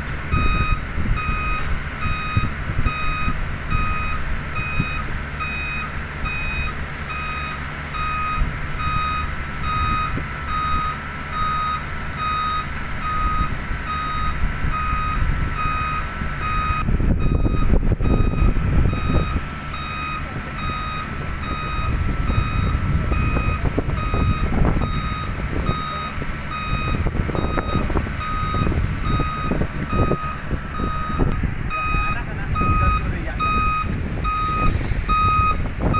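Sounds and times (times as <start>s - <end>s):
truck engine rumble: 0.0s - 35.9s
truck reversing alarm beeping: 0.0s - 35.9s.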